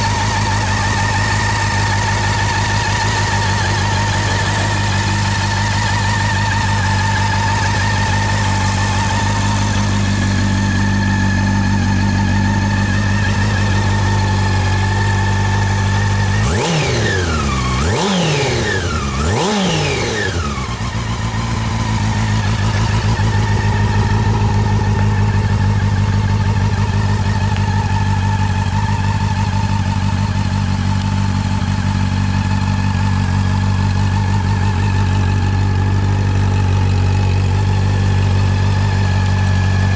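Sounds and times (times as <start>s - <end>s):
engine throttle blips: 0.0s - 39.9s
motorcycle engine idling: 0.0s - 39.9s.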